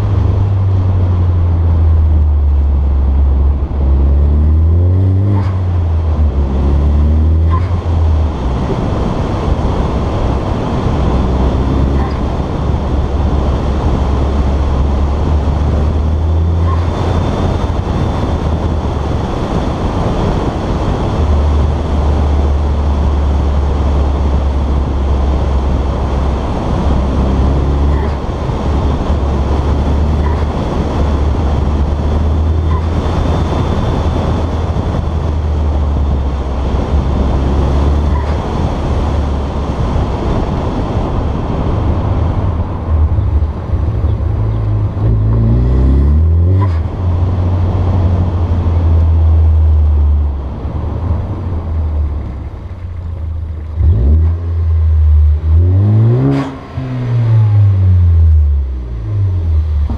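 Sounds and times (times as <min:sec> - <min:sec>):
car engine revving: 0:00.0 - 0:59.9
wind and road noise: 0:00.0 - 0:59.9.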